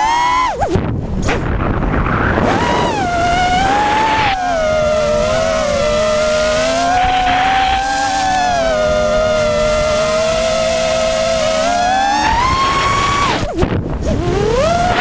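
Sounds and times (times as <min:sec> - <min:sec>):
quadcopter motors whining: 0:00.0 - 0:00.8, 0:01.4 - 0:15.0
noisy rush: 0:00.0 - 0:15.0.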